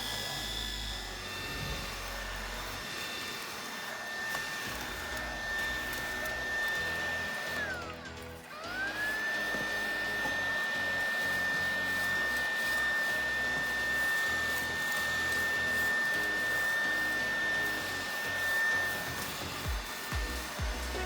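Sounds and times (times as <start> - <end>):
stick vacuum motor whining: 0.0 - 21.0.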